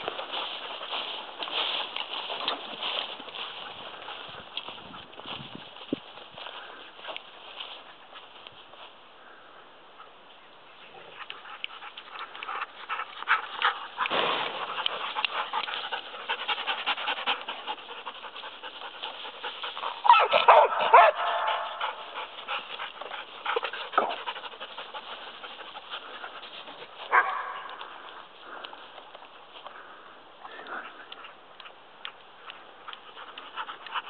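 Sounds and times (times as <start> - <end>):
dogs panting: 0.0 - 34.0
rustling through dry grass: 0.0 - 34.0.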